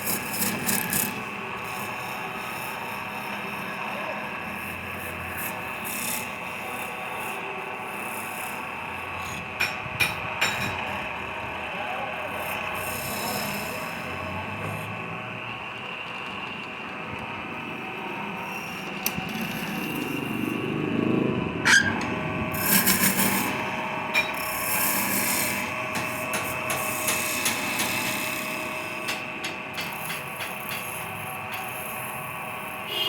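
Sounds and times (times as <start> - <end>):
turning tool cutting wood: 0.0 - 11.6, 12.2 - 15.5, 18.4 - 20.6, 21.6 - 32.2
wood lathe humming: 0.0 - 32.8.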